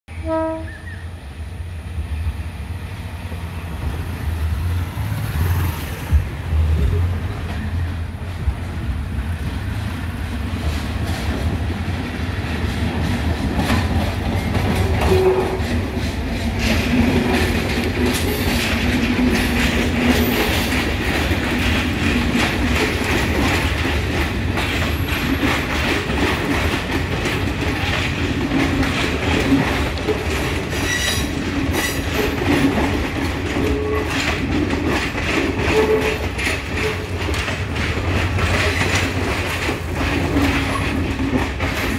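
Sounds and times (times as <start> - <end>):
diesel train rumble: 0.1 - 41.9
wheels clattering over rail joints: 4.0 - 41.9.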